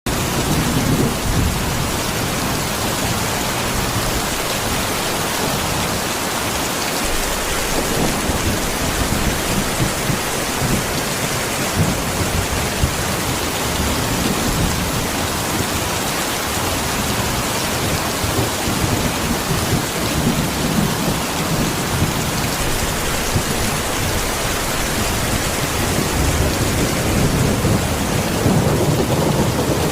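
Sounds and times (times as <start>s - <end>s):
rain-like hiss: 0.4s - 29.9s.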